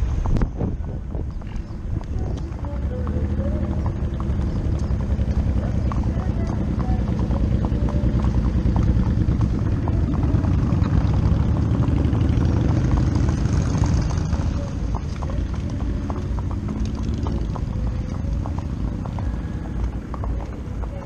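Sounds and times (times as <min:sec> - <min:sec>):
horse hooves clip-clopping on asphalt: 0:00.0 - 0:21.0.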